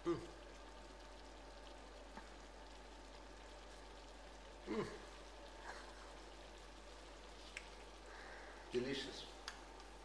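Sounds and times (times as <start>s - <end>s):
sauce simmering in a pan: 0.0s - 10.0s.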